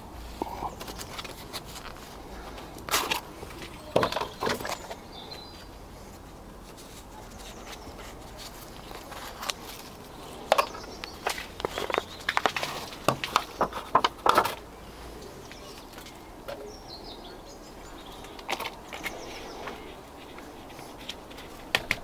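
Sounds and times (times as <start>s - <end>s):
plants and pots rustling and knocking: 0.0s - 17.1s, 18.0s - 22.0s.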